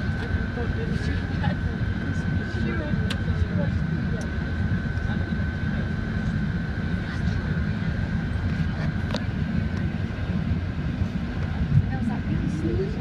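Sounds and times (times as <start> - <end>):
airliner cabin engine rumble: 0.0 - 13.0
thin steady whine: 0.0 - 13.0.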